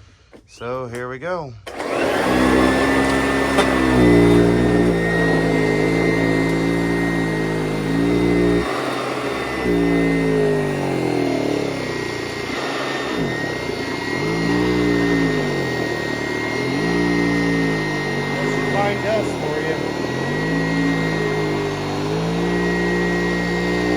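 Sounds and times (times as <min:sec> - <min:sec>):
vacuum cleaner running: 0:01.7 - 0:23.9.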